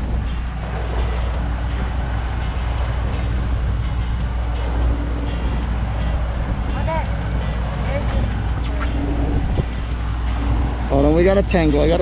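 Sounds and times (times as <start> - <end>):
wind rushing: 0.0 - 11.6
boat engine humming: 0.0 - 12.0
water rushing: 0.0 - 12.0.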